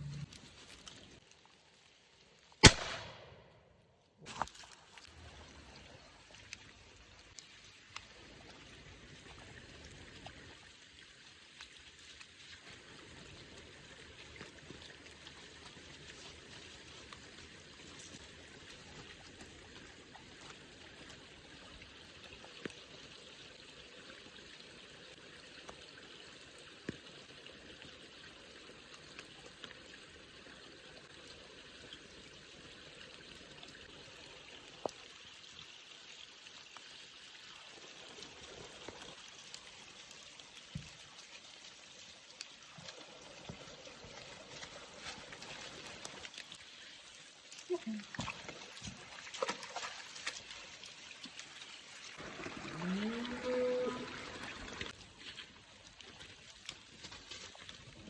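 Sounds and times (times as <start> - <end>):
running water rushing: 4.3 - 58.0.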